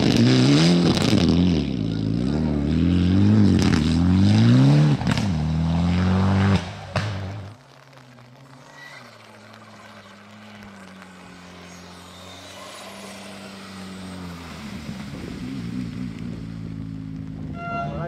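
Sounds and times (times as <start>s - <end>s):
distant rally car engine: 0.0s - 18.0s.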